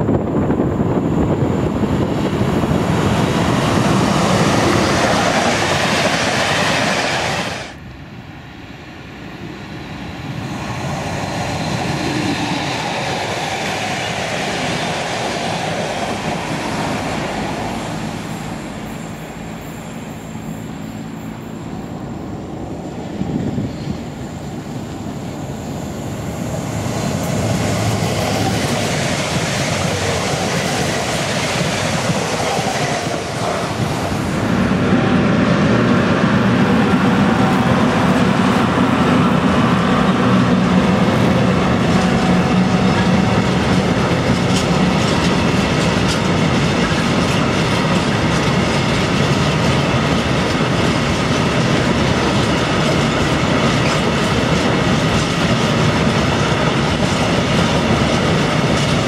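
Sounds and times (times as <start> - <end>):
train passing on track: 0.0 - 59.0
wheel and rail rushing noise: 0.0 - 59.0.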